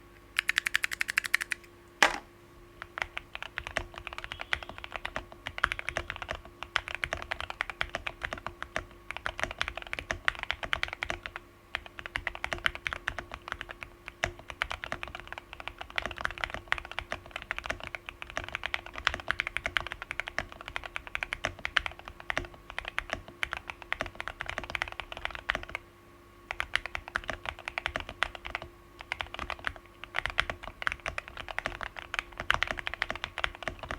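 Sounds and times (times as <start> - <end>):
mechanical keyboard typing: 0.4 - 2.2, 2.8 - 25.8, 26.5 - 33.9.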